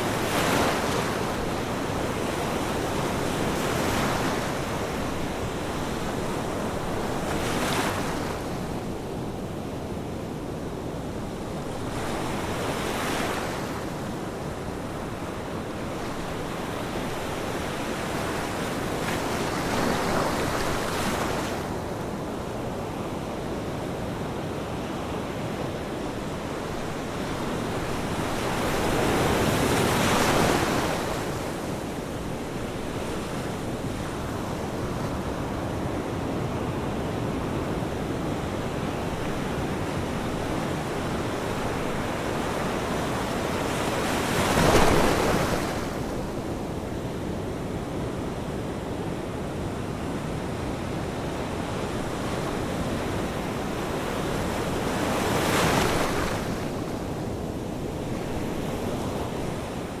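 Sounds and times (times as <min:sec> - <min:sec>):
ocean waves breaking on shore: 0:00.0 - 1:00.0.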